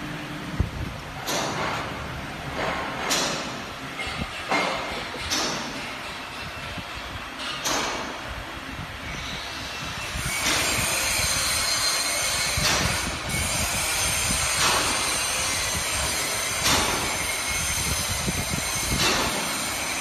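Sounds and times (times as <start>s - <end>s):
wire machine running: 0.0s - 20.0s.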